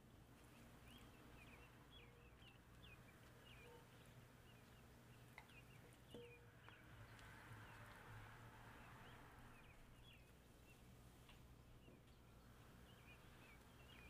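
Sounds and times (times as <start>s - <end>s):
faint birds chirping: 0.0s - 14.0s
low steady hum: 0.0s - 14.0s.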